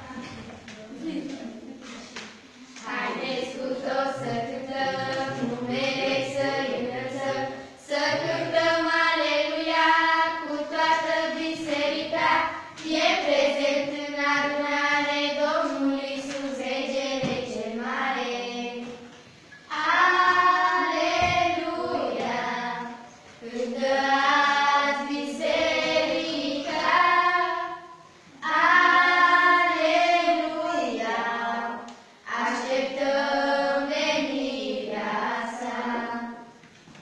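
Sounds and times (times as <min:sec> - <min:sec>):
young women singing a hymn: 0:02.7 - 0:36.6.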